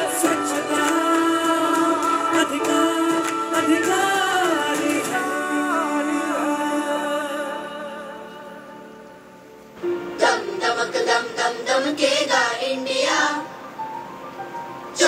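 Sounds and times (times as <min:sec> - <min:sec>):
sung melody song: 0:00.0 - 0:15.0.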